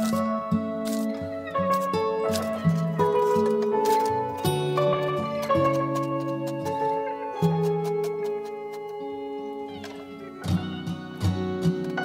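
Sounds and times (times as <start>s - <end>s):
plucked guitar instrumental music: 0.0s - 12.0s.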